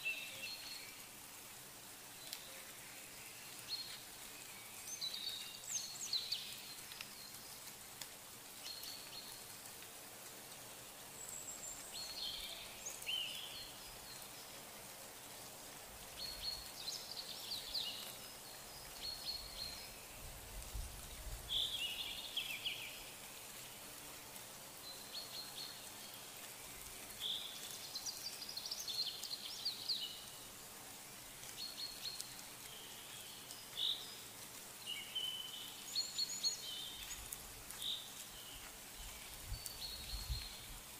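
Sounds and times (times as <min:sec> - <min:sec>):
faint outdoor background: 0:00.0 - 0:40.9.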